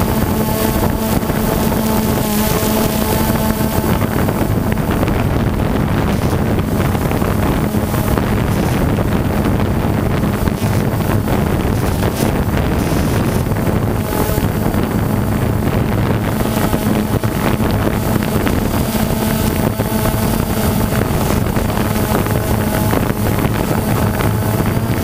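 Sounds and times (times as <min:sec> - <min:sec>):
drone motors humming: 0:00.0 - 0:25.0
wind rushing over microphone: 0:00.0 - 0:25.0.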